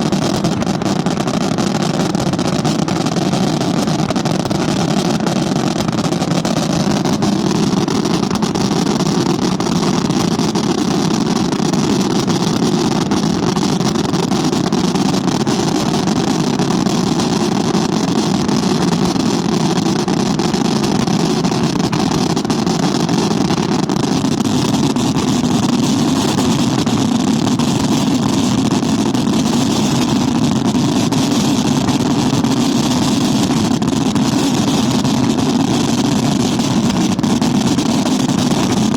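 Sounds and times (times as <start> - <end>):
fireworks barrage rumble: 0.0 - 38.9.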